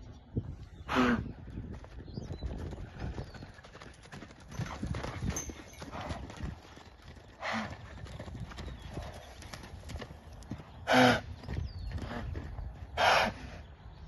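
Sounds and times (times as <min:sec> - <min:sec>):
horse hooves thudding: 0:01.4 - 0:13.3.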